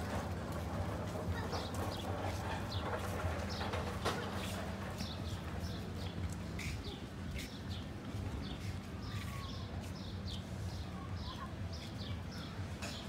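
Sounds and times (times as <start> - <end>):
small birds chirping: 1.4 - 13.0.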